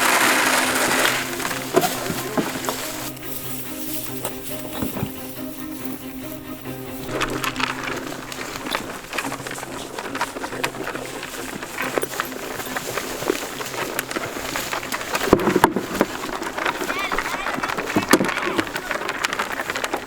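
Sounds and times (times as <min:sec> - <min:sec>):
goats rustling through brush: 0:00.0 - 0:20.0.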